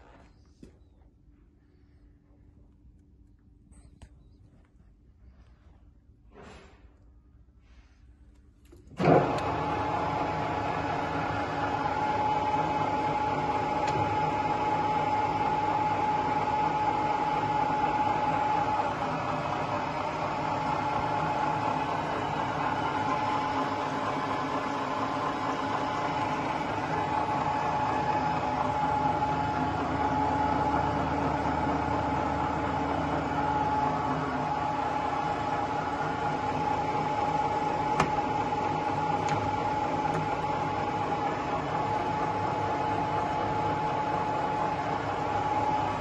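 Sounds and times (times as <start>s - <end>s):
lathe running with high whine: 9.0s - 46.0s.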